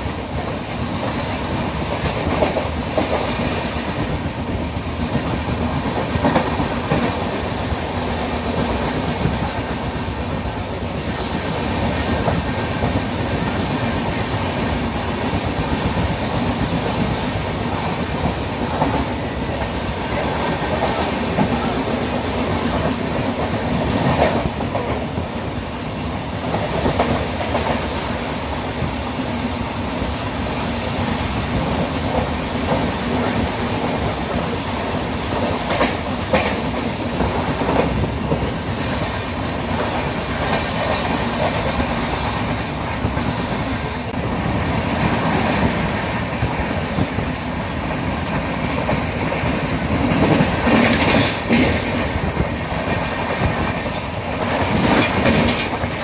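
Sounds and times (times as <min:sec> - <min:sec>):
train clattering: 0:00.0 - 0:56.0
train rumbling along track: 0:00.0 - 0:56.0.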